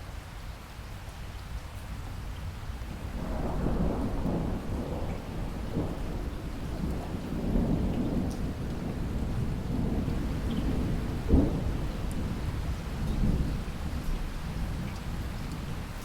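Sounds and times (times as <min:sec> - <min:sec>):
steady rain: 0:00.0 - 0:16.0
rolling thunder: 0:03.1 - 0:16.0.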